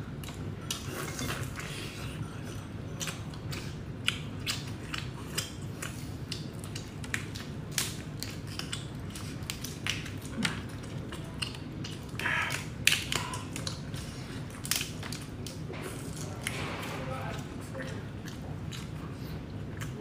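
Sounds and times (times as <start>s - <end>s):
steady low hum: 0.0s - 20.0s
chewing: 0.2s - 20.0s.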